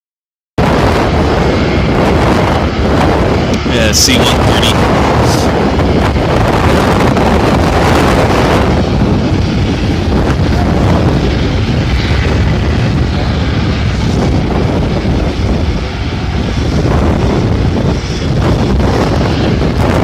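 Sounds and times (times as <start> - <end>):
wind buffeting microphone: 0.6 - 20.0.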